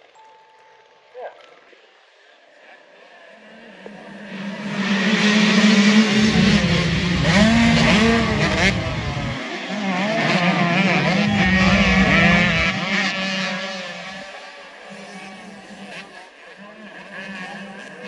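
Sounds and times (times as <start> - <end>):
dirt bike engines revving: 3.2 - 18.0.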